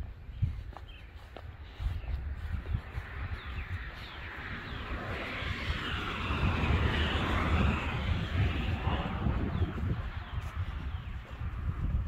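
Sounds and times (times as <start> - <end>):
birds chirping: 0.0 - 12.0
broad rushing noise: 0.6 - 12.0
low rumble: 1.5 - 12.0.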